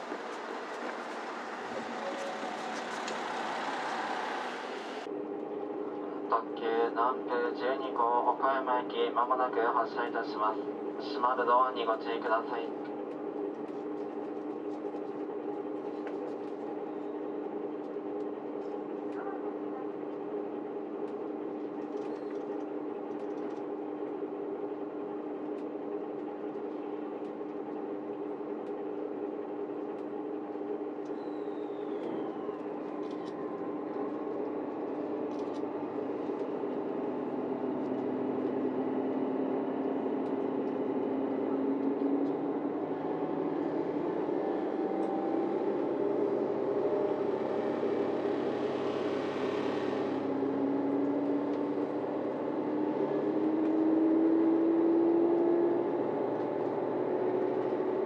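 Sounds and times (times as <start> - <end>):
diesel railcar engines running: 0.0 - 58.0.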